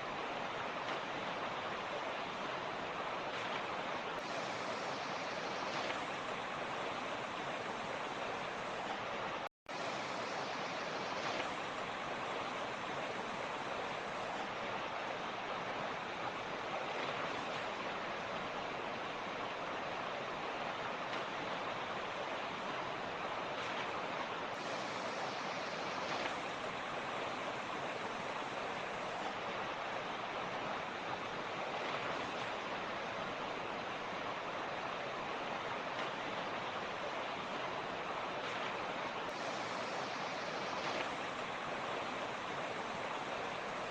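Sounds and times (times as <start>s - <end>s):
mountain creek rushing: 0.0s - 43.9s.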